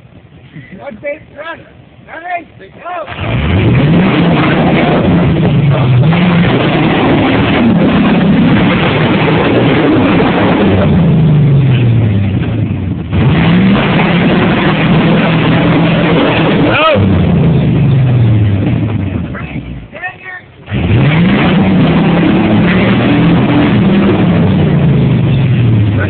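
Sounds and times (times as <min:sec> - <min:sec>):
engine revving hard: 0:03.1 - 0:19.8, 0:20.6 - 0:26.0.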